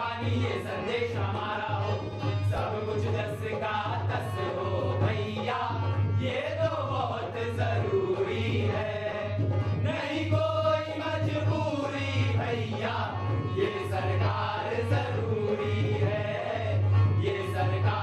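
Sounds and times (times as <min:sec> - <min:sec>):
backing music: 0:00.0 - 0:18.0
men singing together: 0:00.0 - 0:18.0.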